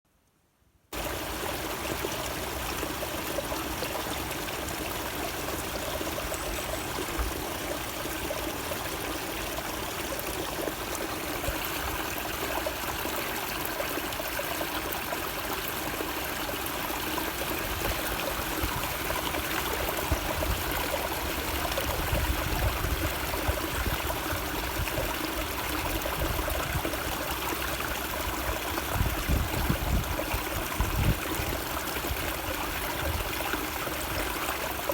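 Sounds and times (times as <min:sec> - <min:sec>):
stream water flowing: 0:00.9 - 0:34.9.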